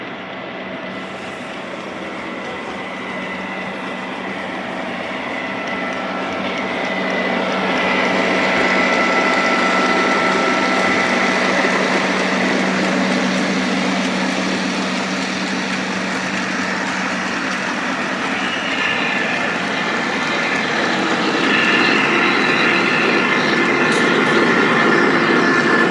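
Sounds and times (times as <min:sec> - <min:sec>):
freight train rumble: 0:00.0 - 0:25.9
high whine: 0:00.0 - 0:25.9.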